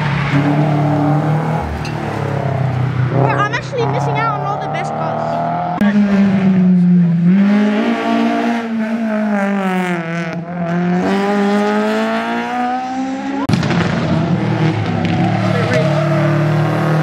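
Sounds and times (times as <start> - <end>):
different engine sound: 0.0 - 17.0
rally car engine revving: 0.0 - 17.0.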